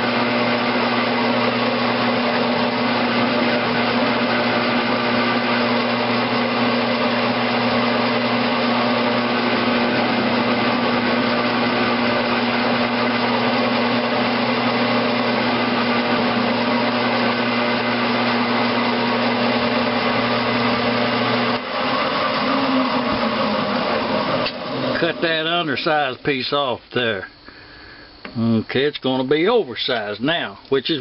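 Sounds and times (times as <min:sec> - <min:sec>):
metal lathe humming: 0:00.0 - 0:31.0.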